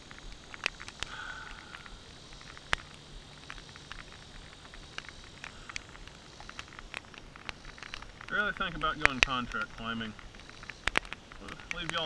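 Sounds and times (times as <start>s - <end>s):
faint steady hiss: 0.0s - 12.0s
raindrop ticks: 0.0s - 12.0s.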